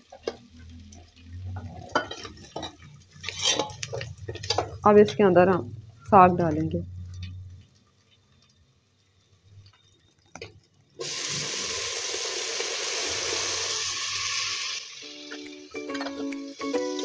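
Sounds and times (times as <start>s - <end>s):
greens sizzling in hot fat: 0.0s - 17.0s.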